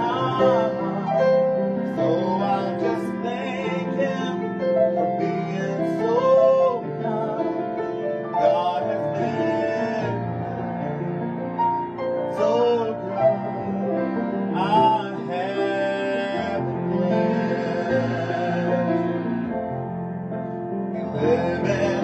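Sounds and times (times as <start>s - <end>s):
man singing gospel song: 0.0s - 10.6s, 12.3s - 13.6s, 14.6s - 19.5s, 21.0s - 22.0s
piano chords: 0.0s - 22.0s.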